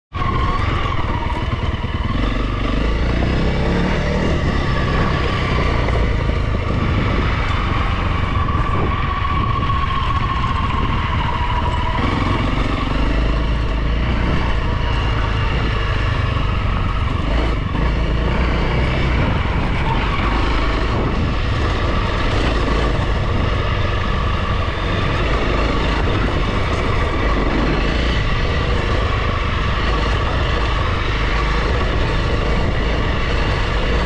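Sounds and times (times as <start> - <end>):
motorcycle engine running: 0.1 - 34.0.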